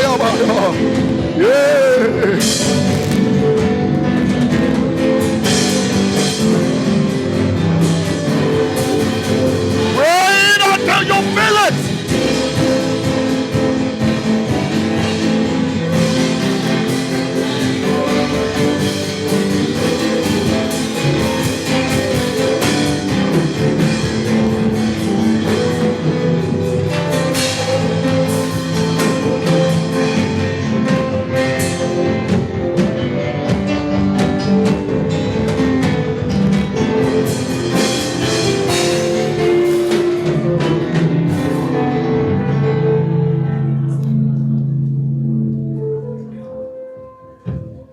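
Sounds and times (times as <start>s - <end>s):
instrumental worship music: 0.0s - 47.9s.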